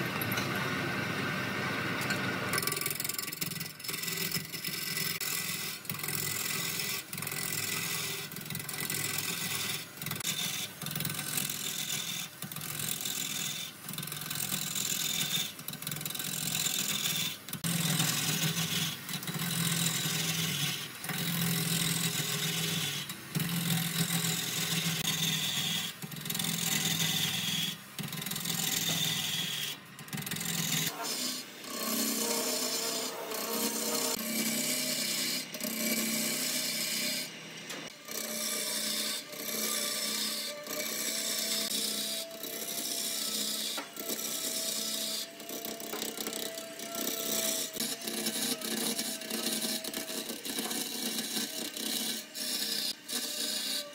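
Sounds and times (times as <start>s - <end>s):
gouge scraping spinning wood: 2.6s - 53.9s
lathe motor hum: 5.2s - 53.9s.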